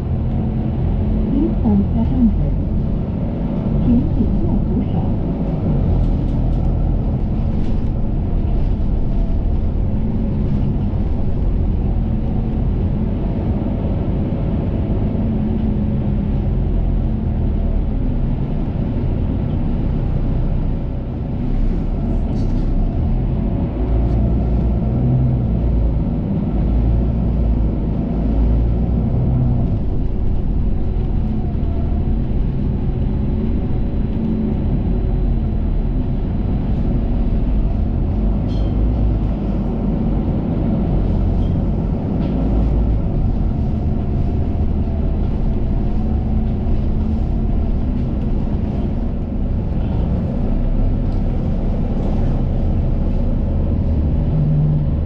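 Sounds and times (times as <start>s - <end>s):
bus engine rumble: 0.0s - 55.0s
road noise: 0.0s - 55.0s.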